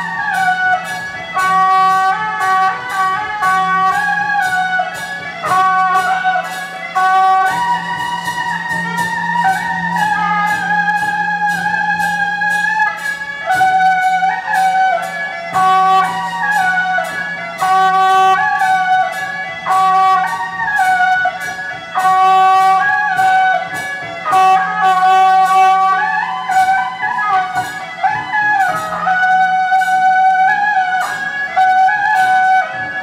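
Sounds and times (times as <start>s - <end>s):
percussion strikes: 0.0s - 33.0s
wind instrument melody: 0.0s - 33.0s.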